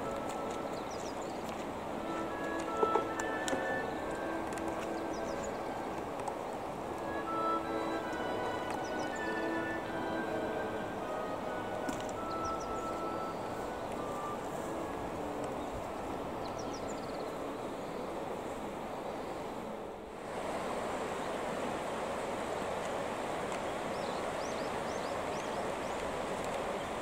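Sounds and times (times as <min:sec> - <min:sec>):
river current rushing: 0:00.0 - 0:27.0.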